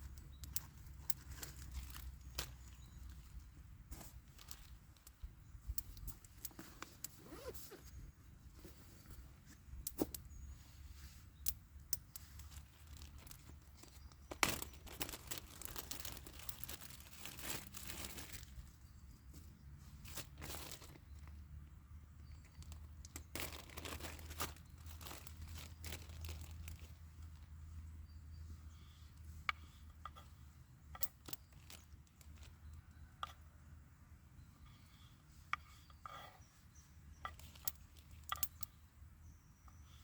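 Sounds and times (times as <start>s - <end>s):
crackling and rustling: 0.0s - 10.3s, 10.9s - 21.7s, 22.3s - 28.0s, 29.2s - 33.4s, 37.2s - 38.7s.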